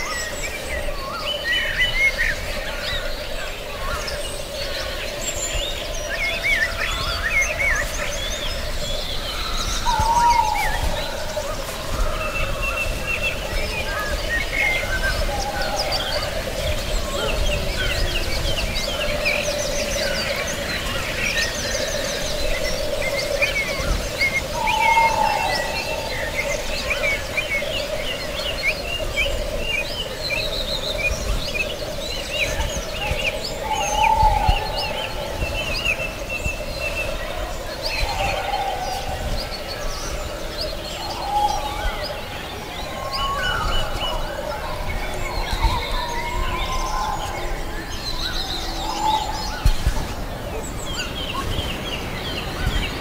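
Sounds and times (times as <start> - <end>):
small birds chirping and singing: 0.0 - 53.0.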